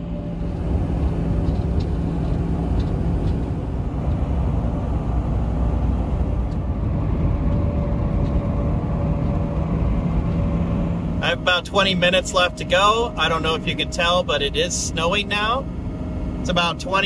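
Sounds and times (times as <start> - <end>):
truck engine drone: 0.0 - 17.0
tyre and road rumble: 0.0 - 17.0.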